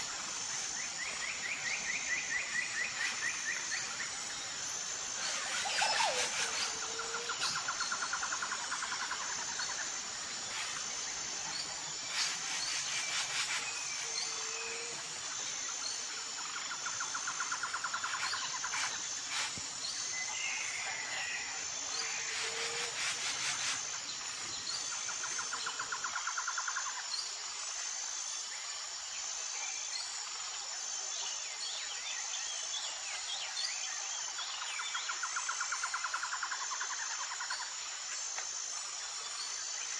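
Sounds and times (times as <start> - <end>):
insects droning: 0.0 - 39.9
low insect trill: 0.0 - 39.9.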